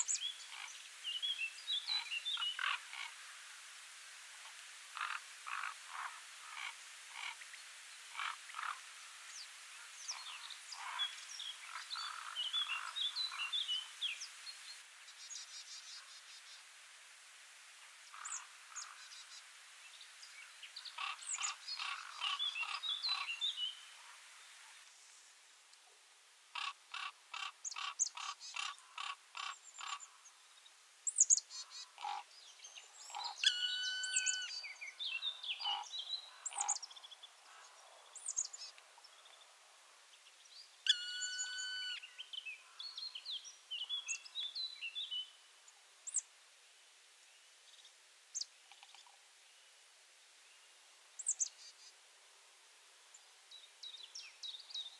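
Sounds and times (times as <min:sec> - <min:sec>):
small birds chirping: 0:00.0 - 0:03.2, 0:04.4 - 0:16.7, 0:18.0 - 0:25.8, 0:26.6 - 0:46.3, 0:47.3 - 0:49.2, 0:50.5 - 0:52.0, 0:53.0 - 0:54.9.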